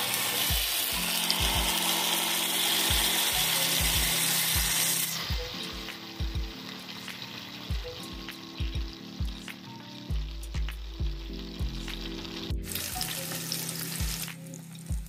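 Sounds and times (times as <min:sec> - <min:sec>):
fish sizzling in hot oil: 0:00.0 - 0:15.0
soft background music with beat: 0:00.0 - 0:15.0.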